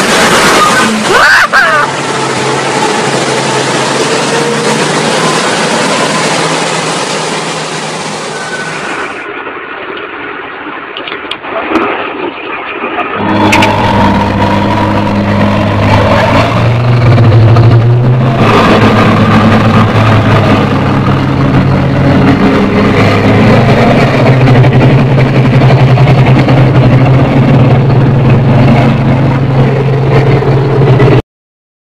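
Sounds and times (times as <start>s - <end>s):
truck engine running under load: 0.0s - 9.5s, 13.1s - 31.2s.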